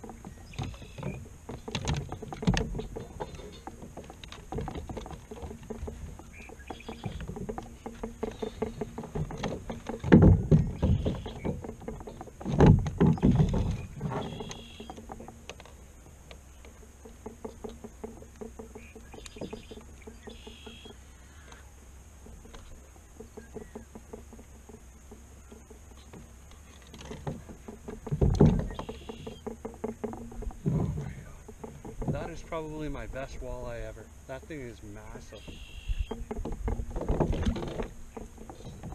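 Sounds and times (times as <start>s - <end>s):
knocks and rustling on plastic hull: 0.0s - 38.9s
thumping on kayak: 0.0s - 38.9s.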